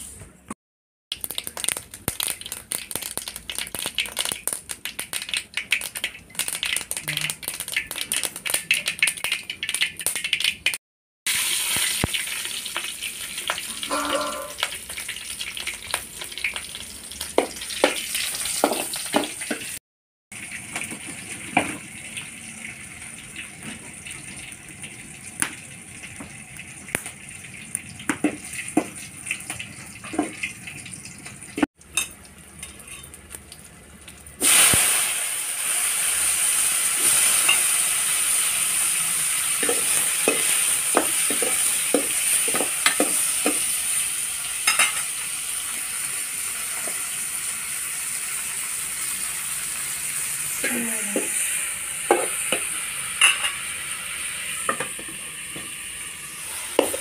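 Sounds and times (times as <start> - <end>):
tomatoes sizzling in oil: 1.1 - 19.8, 20.4 - 57.0.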